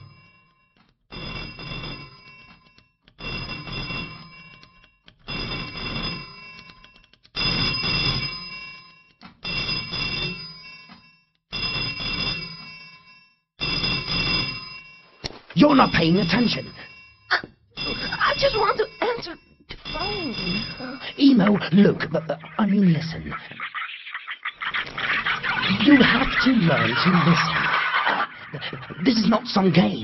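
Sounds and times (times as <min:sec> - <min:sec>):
telephone bell ringing: 0:00.0 - 0:30.0.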